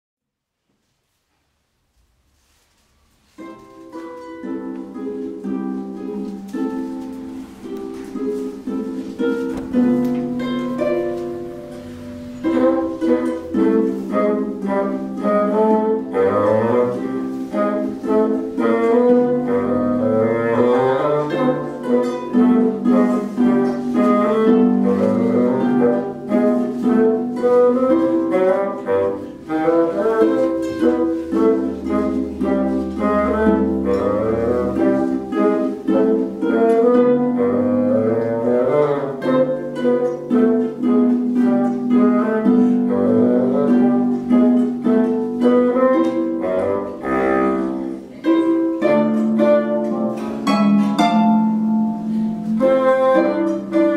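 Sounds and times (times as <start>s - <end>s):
plucked string notes: 3.3s - 53.9s
low bowed string line: 9.6s - 53.9s.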